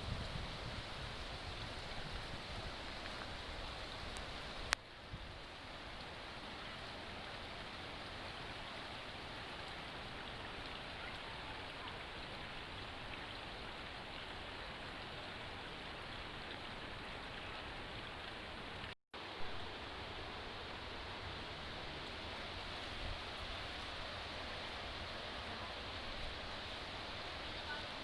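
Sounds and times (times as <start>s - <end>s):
stream and waterfall rushing: 0.0s - 28.0s.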